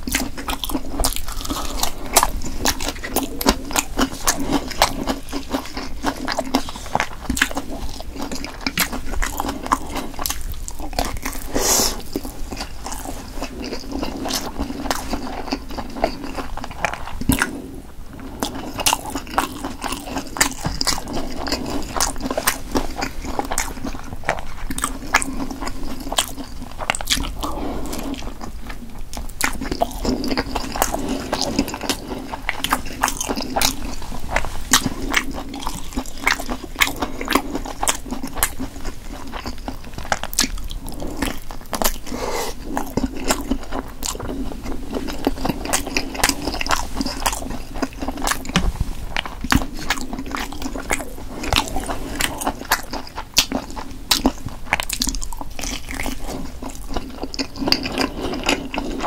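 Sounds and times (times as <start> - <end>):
close-miked chewing and biting: 0.0 - 59.0.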